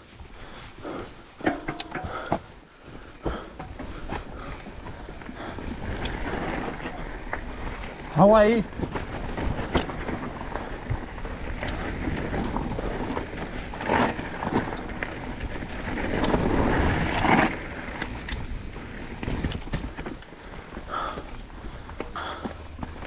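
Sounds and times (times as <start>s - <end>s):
bike tyres rolling over rough ground: 0.0s - 23.0s
bike chain and frame rattling: 3.3s - 23.0s
wind rush on microphone: 3.8s - 23.0s.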